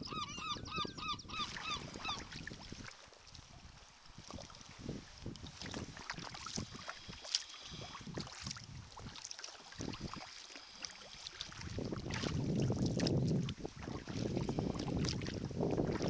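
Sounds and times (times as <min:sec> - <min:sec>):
wind buffeting microphone: 0:00.0 - 0:02.9, 0:03.5 - 0:09.2, 0:09.8 - 0:10.2, 0:11.4 - 0:16.0
paddle splashing water: 0:01.3 - 0:16.0.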